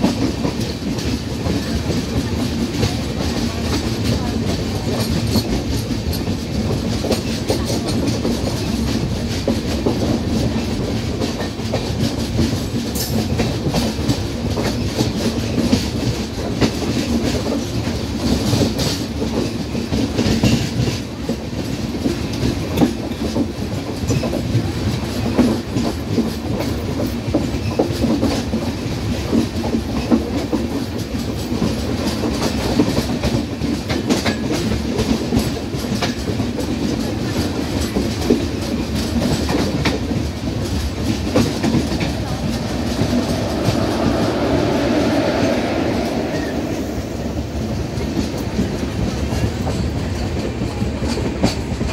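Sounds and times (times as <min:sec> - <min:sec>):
clickety-clack over rail joints: 0:00.0 - 0:51.9
train wheel rumble: 0:00.0 - 0:51.9.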